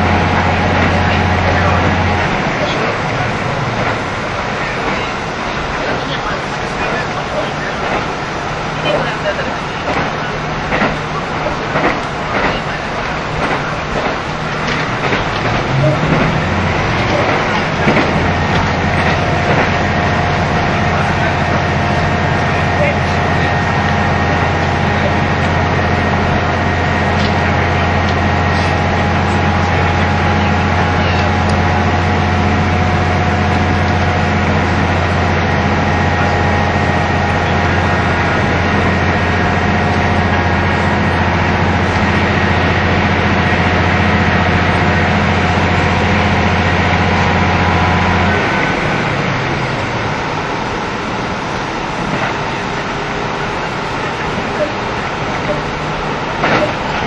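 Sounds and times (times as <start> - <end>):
diesel engine drone: 0.0 - 57.0
steady whine: 0.0 - 57.0
train wheel running noise: 0.0 - 57.0.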